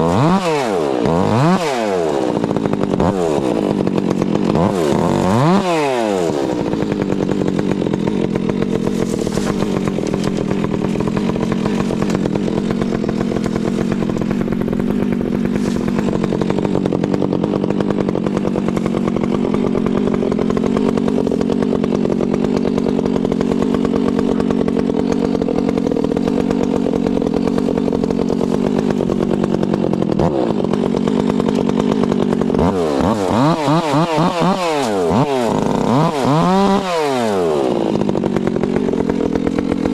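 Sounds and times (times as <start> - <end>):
chainsaw cutting wood: 0.0 - 39.9
chainsaw throttle blips: 0.0 - 39.9.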